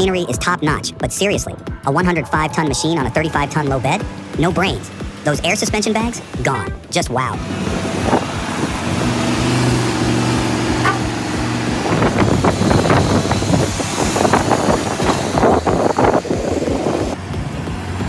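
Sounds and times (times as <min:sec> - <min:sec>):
diesel engine running: 0:01.5 - 0:18.0
rough mechanical rumble: 0:02.5 - 0:18.0.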